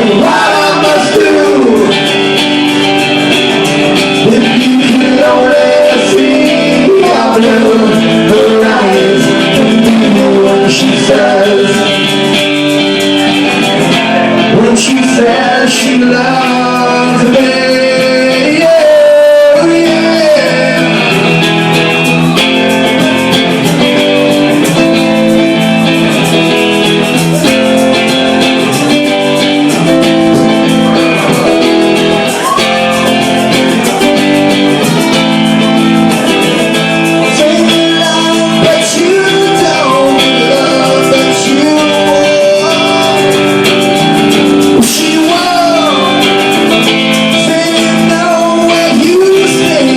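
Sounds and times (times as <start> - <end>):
rock guitar instrumental: 0.0 - 49.9.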